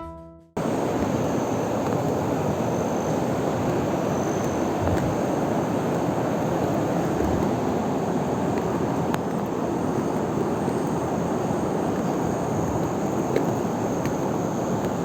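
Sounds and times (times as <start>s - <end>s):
small waterfall rushing: 0.6s - 15.0s.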